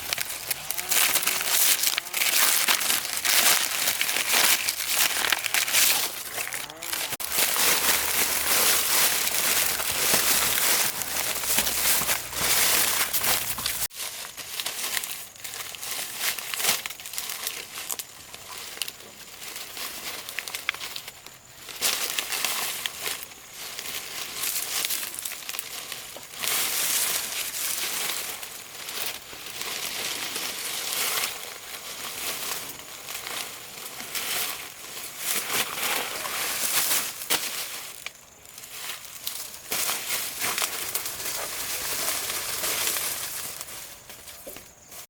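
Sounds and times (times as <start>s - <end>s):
rustling and crinkling of dry material: 0.0s - 45.0s.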